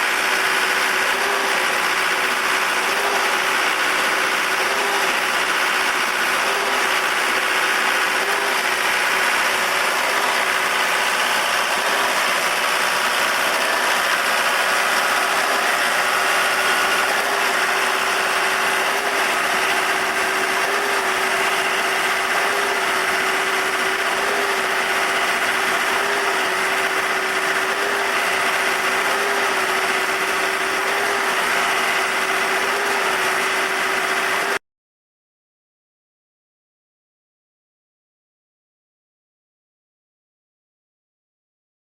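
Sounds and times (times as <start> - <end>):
concrete pump engine droning: 0.0 - 34.6.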